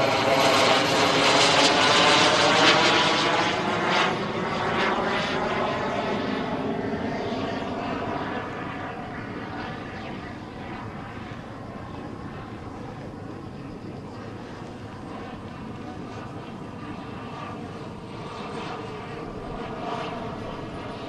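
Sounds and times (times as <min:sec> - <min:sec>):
model jet turbine in flight: 0:00.0 - 0:21.0.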